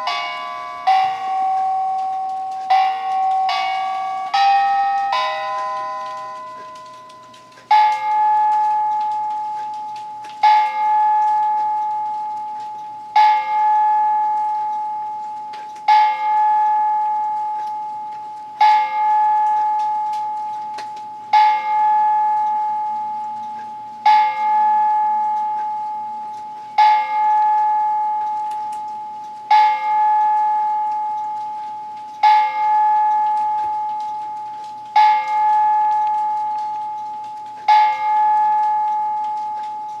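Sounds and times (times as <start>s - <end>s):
clock bell striking: 0.0s - 40.0s.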